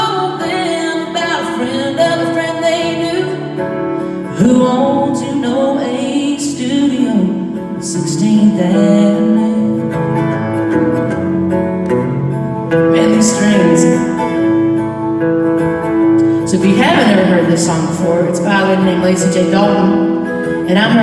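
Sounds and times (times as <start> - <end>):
woman singing: 0.0 - 10.5, 12.7 - 14.8, 16.2 - 21.0
acoustic guitar: 0.0 - 21.0.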